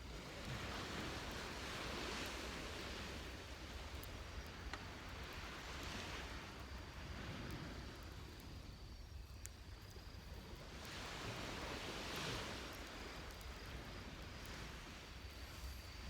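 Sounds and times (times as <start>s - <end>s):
waves washing on a beach: 0.0s - 8.3s, 10.6s - 16.0s
campfire crackles: 0.0s - 16.0s
high insect trill: 0.1s - 16.0s.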